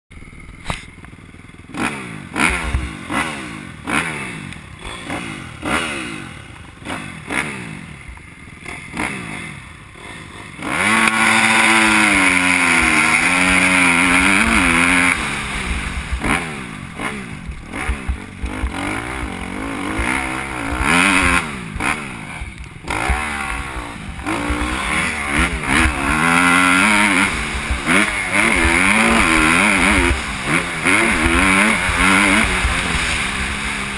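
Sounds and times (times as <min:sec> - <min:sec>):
motocross bike engine revving: 0:00.2 - 0:33.9.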